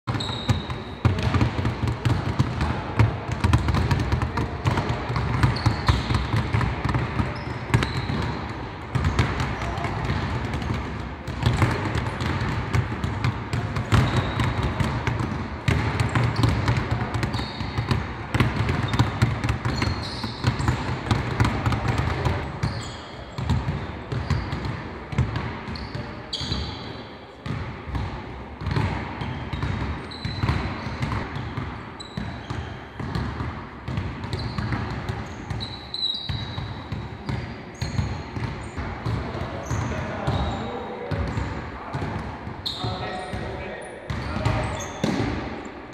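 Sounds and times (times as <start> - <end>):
sneaker squeaks: 0.0 - 1.5, 3.5 - 12.5, 13.8 - 27.6, 28.6 - 33.3, 33.9 - 45.8
basketballs bouncing on hardwood: 0.1 - 45.6.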